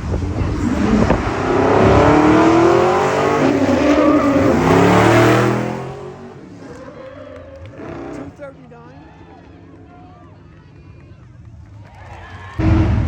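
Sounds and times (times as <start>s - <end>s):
vehicle engine accelerating hard: 0.0s - 10.8s.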